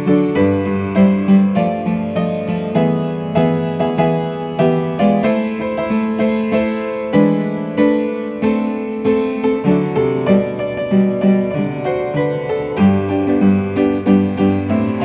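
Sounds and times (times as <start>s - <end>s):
solo piano playing a hymn: 0.0s - 15.0s.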